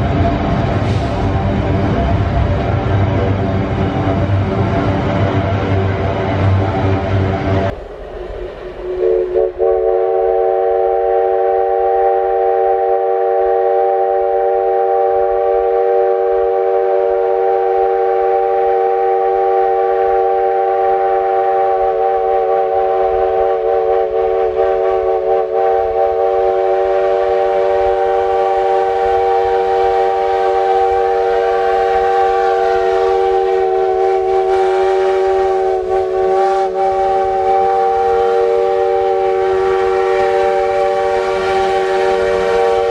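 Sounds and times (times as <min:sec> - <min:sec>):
steam locomotive whistle chord: 0:07.7 - 0:42.9.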